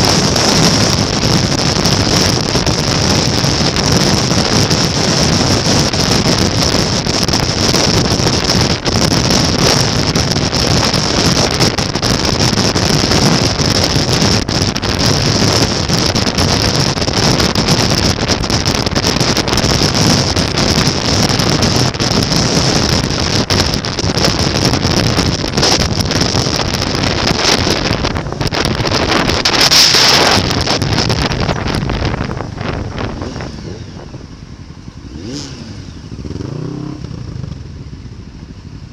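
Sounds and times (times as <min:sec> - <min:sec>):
wind rush on microphone: 0:00.0 - 0:38.2
motorcycle running: 0:00.0 - 0:38.9.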